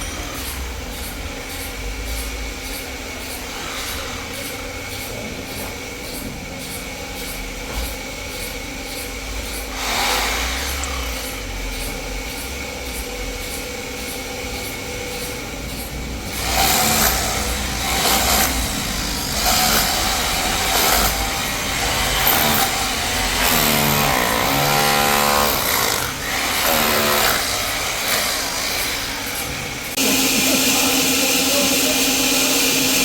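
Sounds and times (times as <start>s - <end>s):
sawmill machinery whining: 0.0s - 33.0s.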